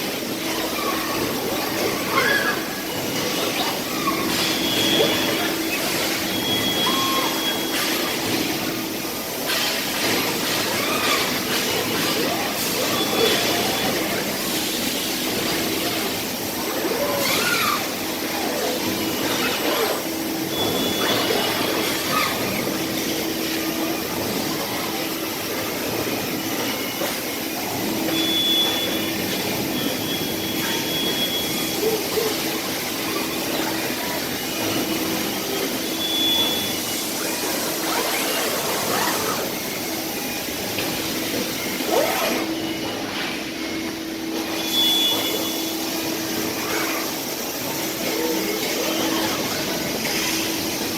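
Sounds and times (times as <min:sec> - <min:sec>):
factory machinery whirring: 0:00.0 - 0:50.9.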